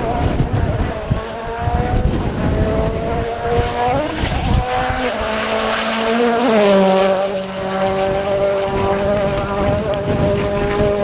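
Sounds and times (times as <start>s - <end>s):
rally car engine revving hard: 0.0s - 11.0s
wind buffeting microphone: 0.0s - 11.0s.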